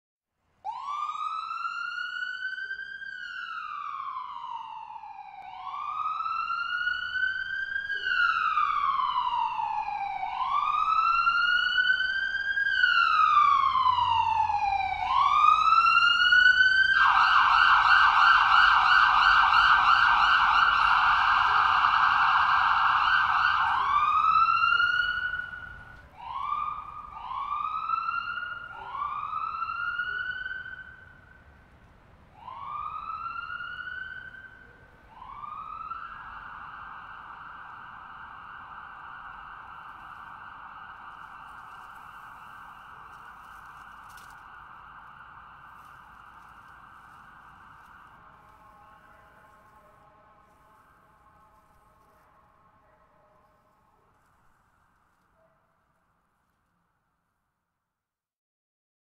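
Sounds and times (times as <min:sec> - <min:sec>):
ambulance siren: 0:00.6 - 0:55.6.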